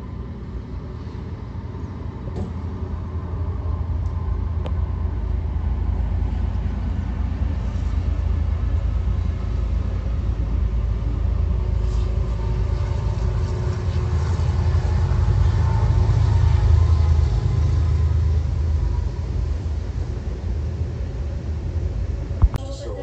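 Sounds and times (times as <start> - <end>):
diesel locomotives rumbling past: 0.0 - 23.0.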